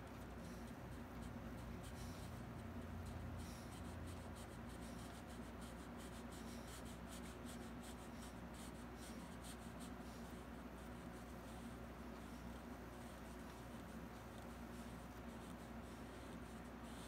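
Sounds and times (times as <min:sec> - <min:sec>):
paintbrush scratching on canvas: 0:00.0 - 0:17.0.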